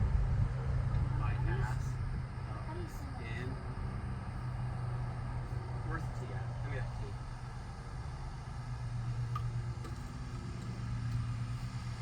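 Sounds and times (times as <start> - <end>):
low mechanical motor hum: 0.0 - 12.0.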